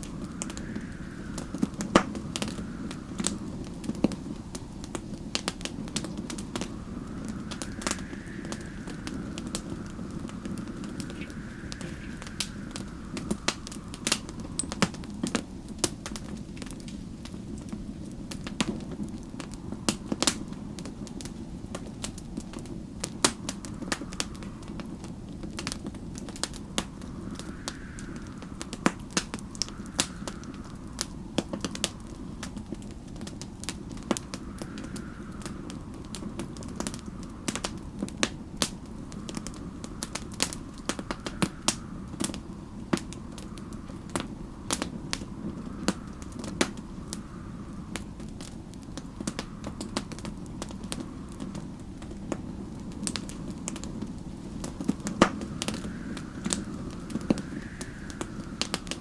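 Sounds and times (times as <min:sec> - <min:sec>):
wind howling: 0:00.0 - 0:59.0
wood fire crackling and popping: 0:00.0 - 0:59.0.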